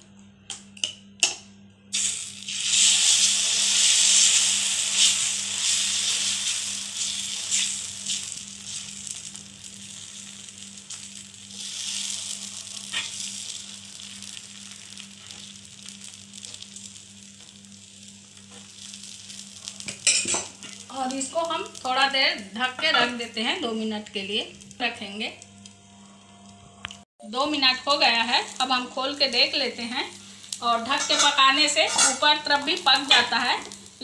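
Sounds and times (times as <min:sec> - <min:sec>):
batter sizzling on hot griddle: 0:01.9 - 0:26.4, 0:27.5 - 0:34.0.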